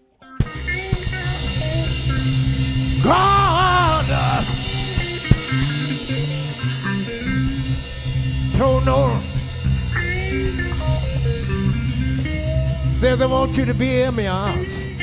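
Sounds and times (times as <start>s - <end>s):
bass guitar: 0.0s - 15.0s
electric guitar: 0.0s - 15.0s
drum kit: 0.4s - 15.0s
wavering lead note: 0.4s - 15.0s.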